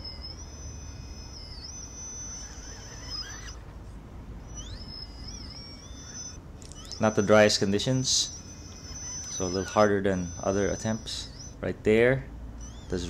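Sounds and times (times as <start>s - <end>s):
electric motor whine: 0.0s - 11.8s, 12.4s - 13.0s
low steady rumble: 0.0s - 13.0s.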